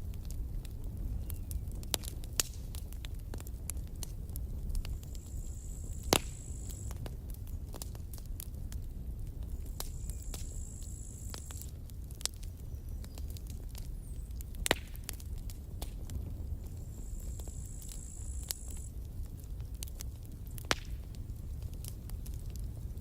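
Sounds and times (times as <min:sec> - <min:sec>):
burning wood popping: 0:00.0 - 0:23.0
campfire crackling: 0:00.0 - 0:23.0.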